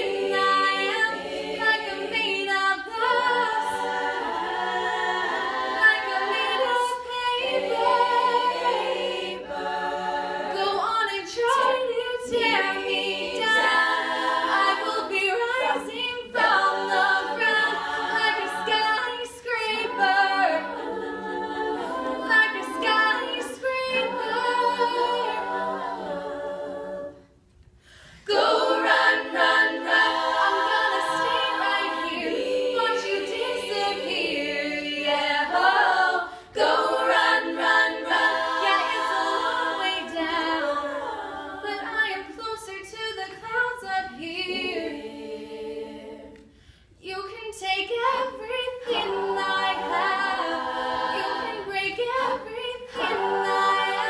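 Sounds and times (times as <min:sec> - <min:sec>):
women singing backing vocals: 0:00.0 - 0:27.4, 0:28.1 - 0:54.0.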